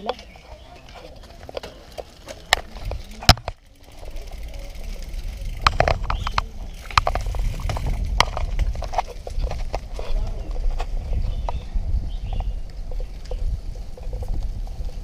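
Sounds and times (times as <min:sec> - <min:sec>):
bicycle rolling on concrete: 0:00.0 - 0:15.0
bike rattling over bumps: 0:00.0 - 0:15.0.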